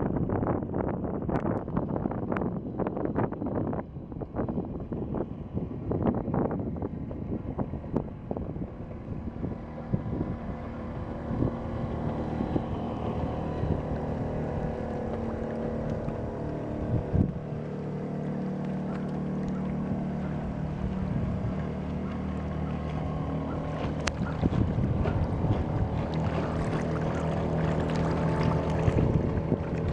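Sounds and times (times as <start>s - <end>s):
wind buffeting microphone: 0.0s - 29.9s
outboard motor running: 0.1s - 29.9s.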